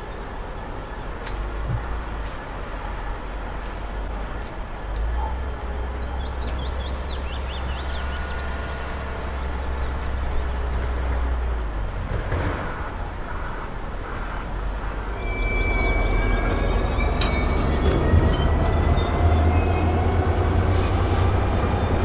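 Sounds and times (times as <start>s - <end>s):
diesel machinery rumbling: 0.0s - 22.0s.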